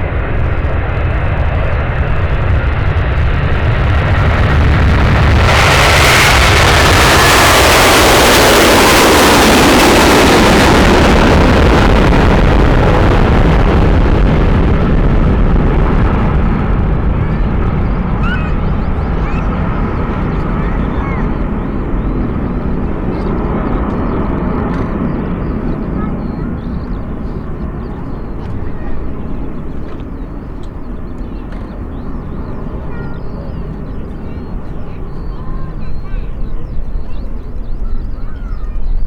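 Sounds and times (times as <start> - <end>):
jet airliner engines at take-off: 0.0 - 39.0.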